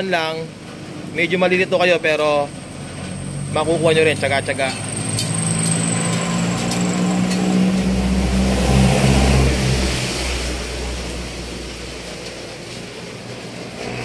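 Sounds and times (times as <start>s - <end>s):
vehicle passing: 2.0s - 14.0s.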